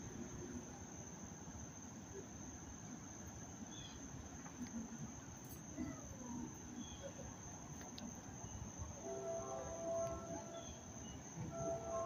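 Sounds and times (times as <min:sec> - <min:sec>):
crickets trilling: 0:00.0 - 0:12.0
low background hum: 0:00.0 - 0:12.0.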